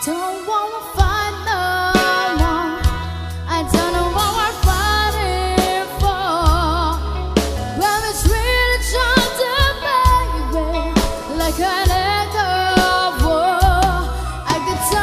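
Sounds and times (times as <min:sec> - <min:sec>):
lead singer with vibrato: 0:00.0 - 0:15.0
slow rock ballad band: 0:00.0 - 0:15.0.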